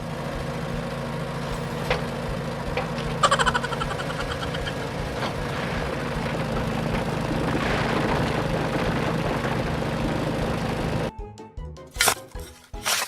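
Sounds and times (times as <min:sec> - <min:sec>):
road roller engine drone: 0:00.0 - 0:11.1.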